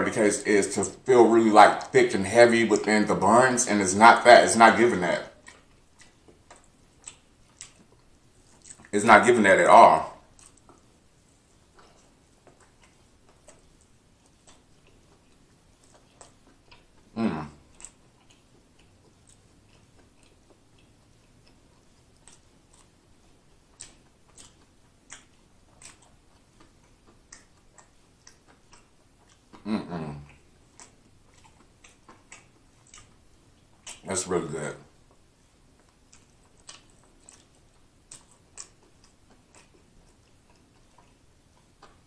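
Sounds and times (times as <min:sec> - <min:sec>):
close chewing with mouth clicks: 0:00.2 - 0:42.0.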